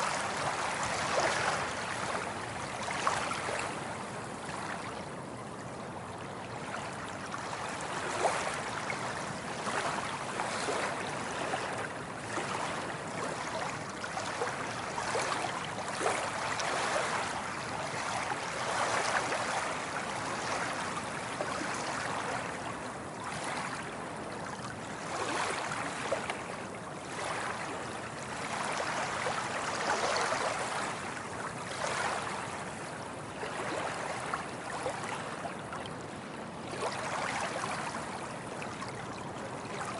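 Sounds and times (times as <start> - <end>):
water waves lapping: 0.0 - 4.9, 7.6 - 39.9.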